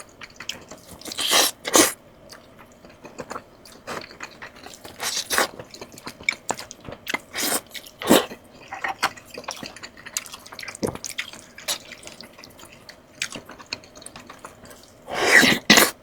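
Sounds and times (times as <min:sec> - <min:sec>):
wet chewing and lip smacking: 0:00.0 - 0:15.9.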